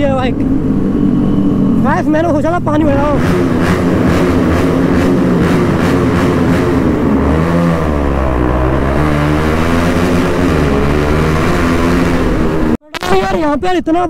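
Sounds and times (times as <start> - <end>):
motorcycle engine revving in tunnel: 0.0 - 12.8.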